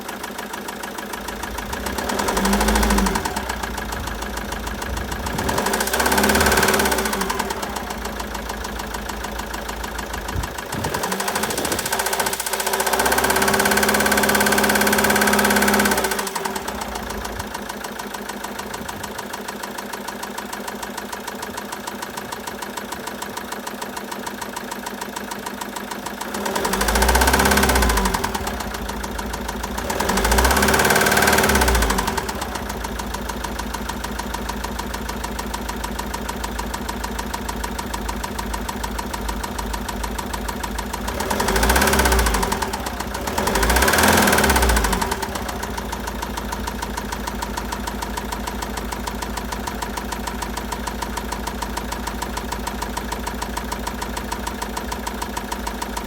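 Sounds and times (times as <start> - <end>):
knocking diesel engine revving: 0.0 - 56.0.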